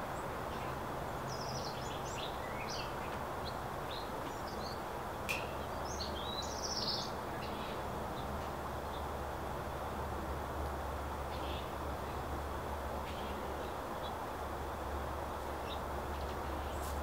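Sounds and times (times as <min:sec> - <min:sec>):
small songbirds chirping: 0:00.0 - 0:09.9, 0:11.2 - 0:17.0.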